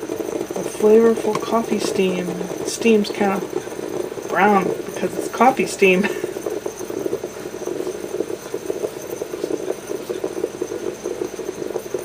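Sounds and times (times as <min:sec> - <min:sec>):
moka pot sputtering and gurgling: 0:00.0 - 0:12.0.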